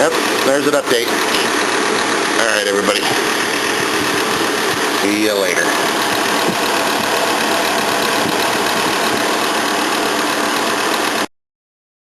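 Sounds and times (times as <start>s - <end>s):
steady machine noise with whine: 0.0s - 11.3s.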